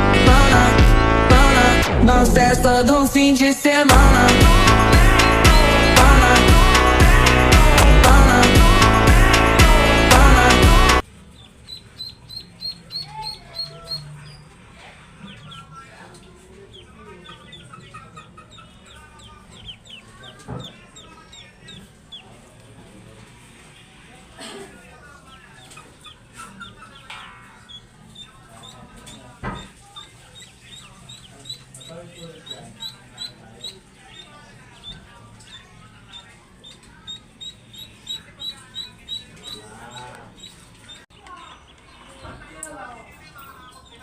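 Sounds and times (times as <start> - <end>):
ducklings peeping: 3.9 - 23.5, 24.8 - 44.0.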